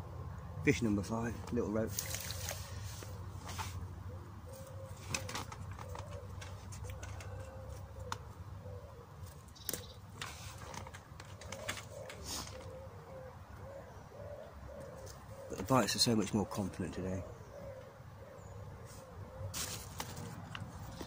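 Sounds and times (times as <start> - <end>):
pigeon cooing: 2.0 - 21.0.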